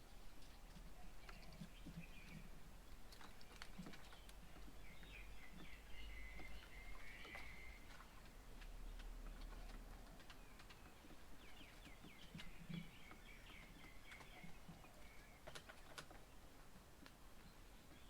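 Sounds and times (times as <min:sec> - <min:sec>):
faint birdsong chirps: 0:00.0 - 0:18.0.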